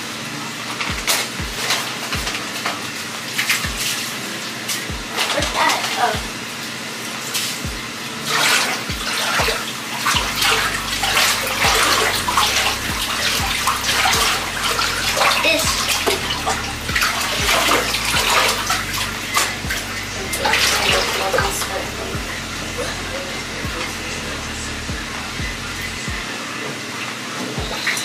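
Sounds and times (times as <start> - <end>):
water running and splashing: 0.1 - 25.2.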